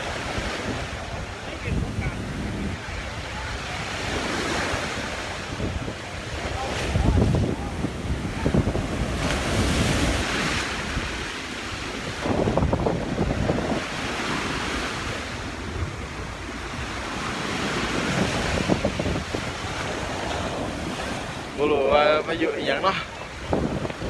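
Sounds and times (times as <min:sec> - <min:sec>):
sea waves washing onto shore: 0:00.0 - 0:24.0
wind rumbling on microphone: 0:00.0 - 0:24.0.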